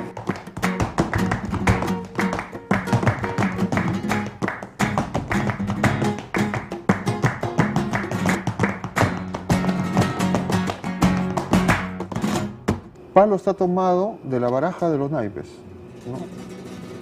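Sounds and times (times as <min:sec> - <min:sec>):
flamenco acoustic guitar: 0:00.0 - 0:12.9, 0:15.9 - 0:17.0.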